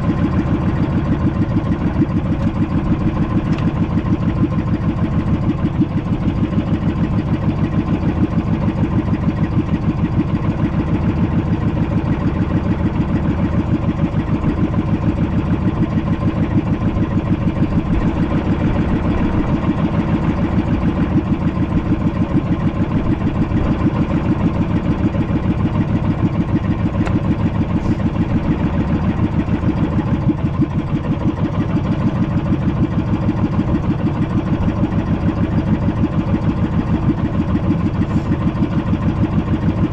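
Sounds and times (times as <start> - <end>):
boat engine chugging: 0.0 - 39.9.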